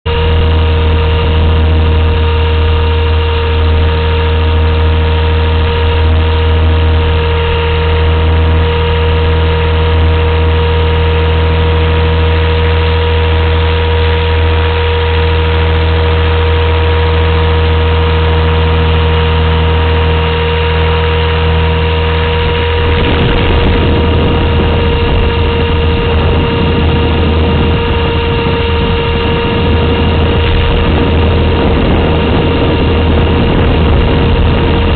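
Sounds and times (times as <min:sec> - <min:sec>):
rc helicopter motor whine and rotors: 0:00.1 - 0:34.9.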